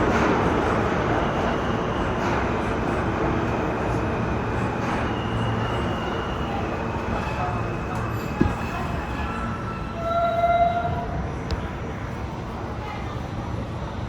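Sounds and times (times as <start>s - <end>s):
subway train rumbling in tunnel: 0.0s - 14.0s.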